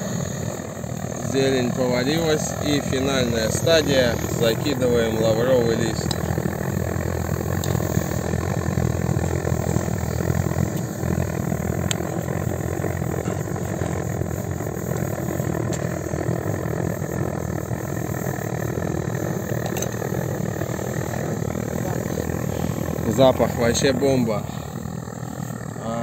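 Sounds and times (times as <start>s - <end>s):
gas burner flame rushing: 0.0s - 26.0s.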